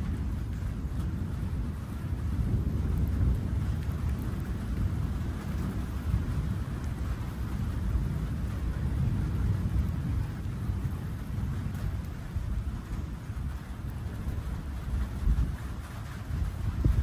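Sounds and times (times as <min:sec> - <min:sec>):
steady rain: 0:00.0 - 0:17.0
thunder rumbling: 0:00.0 - 0:17.0.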